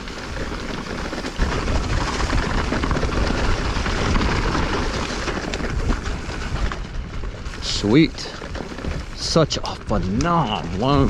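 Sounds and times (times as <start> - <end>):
bike rattling over bumps: 0.0 - 11.0
tyres rolling over loose soil: 0.0 - 11.0
wind buffeting microphone: 0.0 - 11.0.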